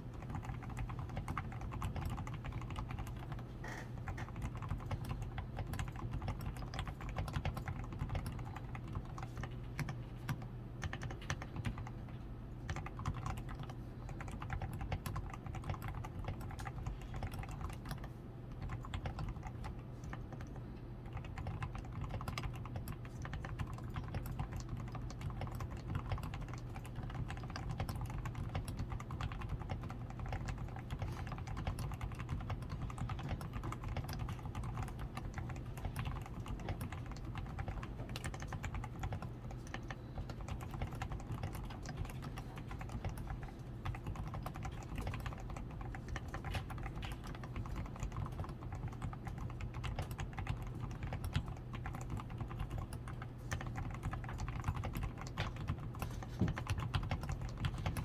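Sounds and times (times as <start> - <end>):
low steady hum: 0.0 - 58.0
mechanical keyboard typing: 0.0 - 58.0.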